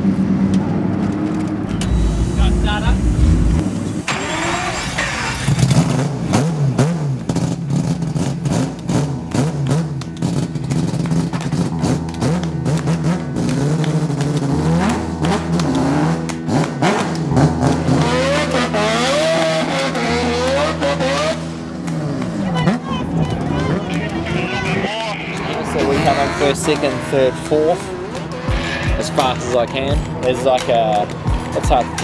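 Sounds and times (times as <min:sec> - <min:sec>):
exhaust crackles: 0:01.6 - 0:32.0
rotary engine revving: 0:01.7 - 0:30.2.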